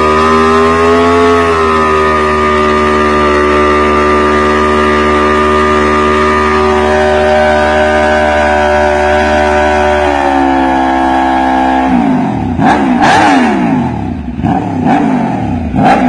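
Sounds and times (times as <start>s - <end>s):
motorcycle engine revving high: 0.0s - 16.0s.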